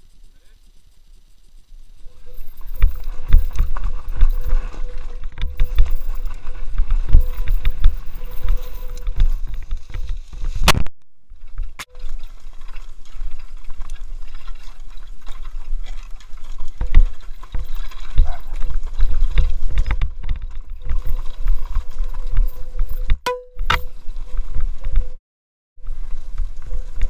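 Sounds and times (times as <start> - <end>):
bike rattling over bumps: 0.0 - 10.7, 11.3 - 24.3
wind rumbling on microphone: 1.5 - 25.2, 25.8 - 27.0.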